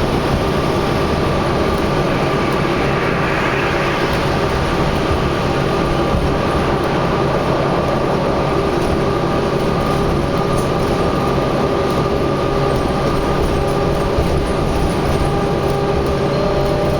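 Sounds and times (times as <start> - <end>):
highway traffic: 0.0 - 16.9.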